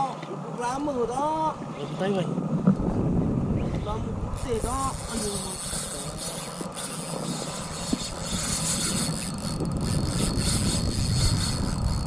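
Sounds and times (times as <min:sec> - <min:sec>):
low wind and boat rumble: 0:00.0 - 0:12.0.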